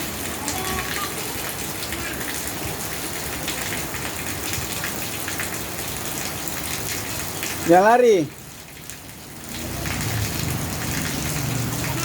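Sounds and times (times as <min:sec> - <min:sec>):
individual raindrop hits: 0:00.0 - 0:12.0
steady rain falling: 0:00.0 - 0:12.0.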